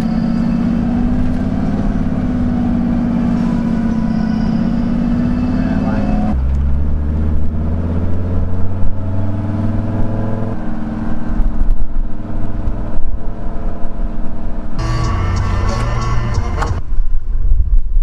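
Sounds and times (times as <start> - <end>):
van engine droning: 0.0 - 17.0.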